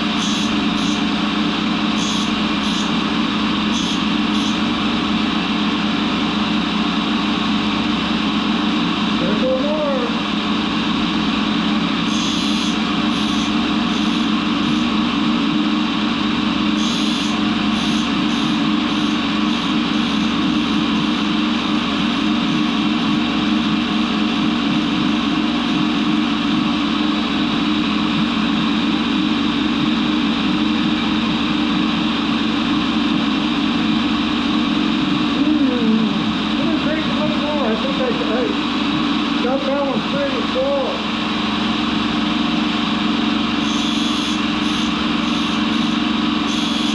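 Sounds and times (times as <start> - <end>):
lathe running: 0.0 - 46.9.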